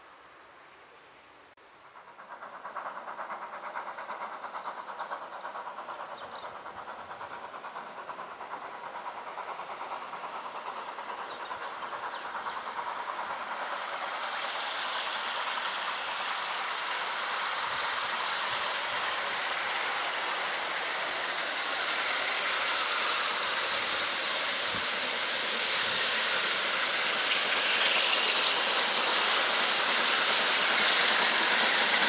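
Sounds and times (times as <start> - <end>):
steam locomotive exhaust beats: 1.6 - 32.0.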